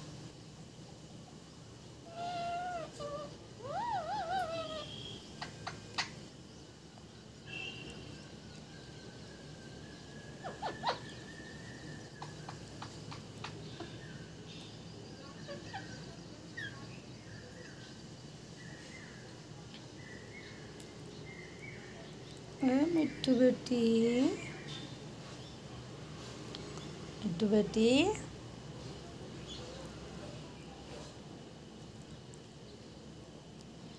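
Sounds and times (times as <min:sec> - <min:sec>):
low background hum: 0:00.0 - 0:33.9.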